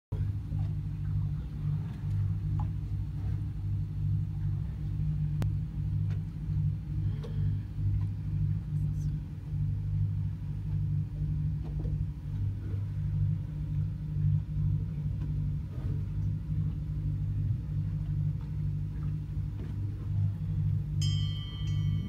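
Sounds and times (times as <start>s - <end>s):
low mechanical hum: 0.1s - 22.0s.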